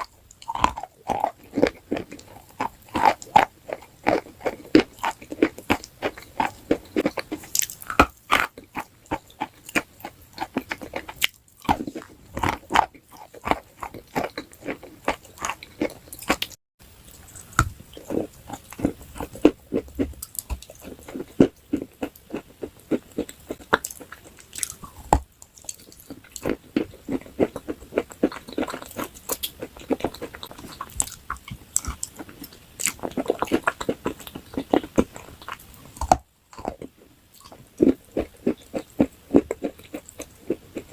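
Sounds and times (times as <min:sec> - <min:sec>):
crunchy food chewing: 0:00.0 - 0:40.9.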